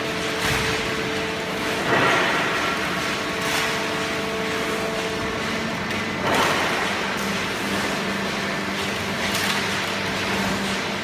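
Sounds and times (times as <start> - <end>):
baling machine hum: 0.0 - 11.0.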